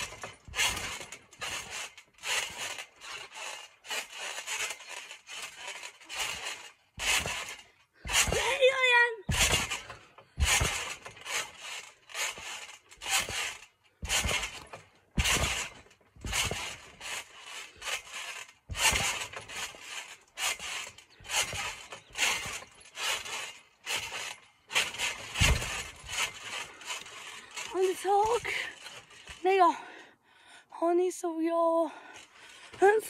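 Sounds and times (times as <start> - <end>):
rubbing and scraping noises: 0.0 - 29.5.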